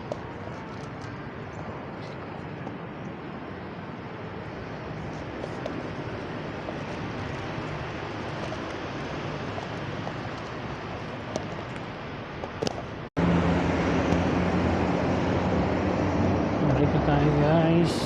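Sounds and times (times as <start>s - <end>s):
road traffic noise: 0.0s - 18.0s
steady low hum: 0.0s - 18.0s.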